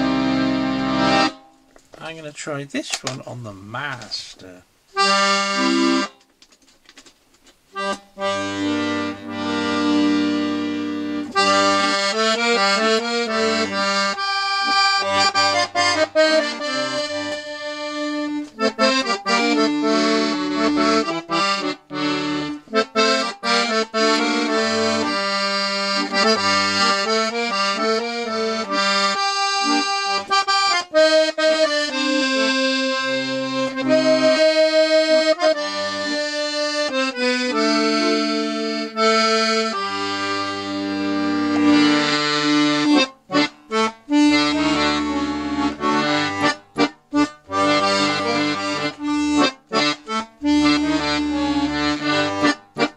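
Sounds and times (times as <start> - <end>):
accordion playing a tune: 0.0 - 2.2, 4.9 - 6.3, 7.7 - 52.9.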